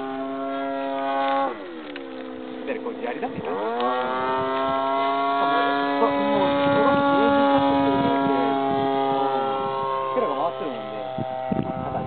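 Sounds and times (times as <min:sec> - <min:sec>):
model plane engine at high throttle: 0:00.0 - 0:12.0.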